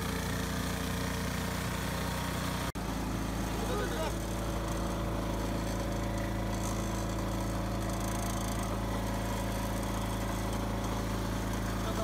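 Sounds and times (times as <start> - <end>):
harvester mechanical drone: 0.0 - 12.0.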